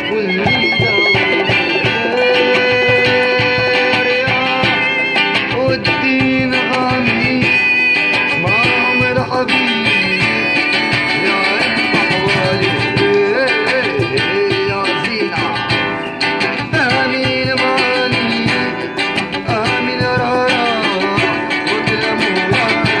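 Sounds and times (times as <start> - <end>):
person singing: 0.0 - 15.9, 16.5 - 23.0
plucked guitar: 0.0 - 23.0.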